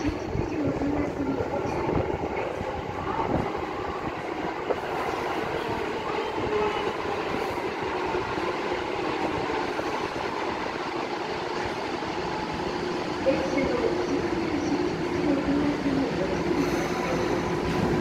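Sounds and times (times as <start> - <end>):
subway train rumbling on rails: 0.0 - 18.0.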